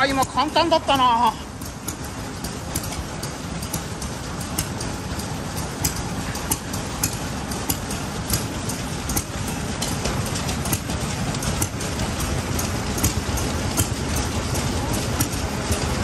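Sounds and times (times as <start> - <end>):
stationary engine beating: 0.0 - 16.0
steady low hum: 0.0 - 16.0.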